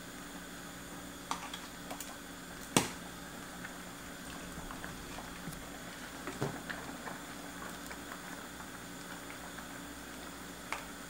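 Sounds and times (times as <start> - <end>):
pot simmering hiss: 0.0 - 11.0.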